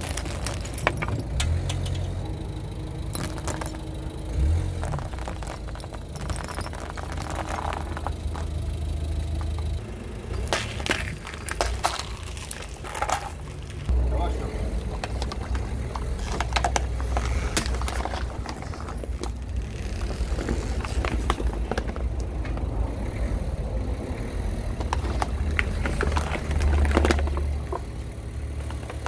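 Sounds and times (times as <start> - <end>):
plastic bottles crunching under tyre: 0.0 - 2.2, 3.0 - 23.1, 24.6 - 29.0
low rumble: 0.0 - 29.0.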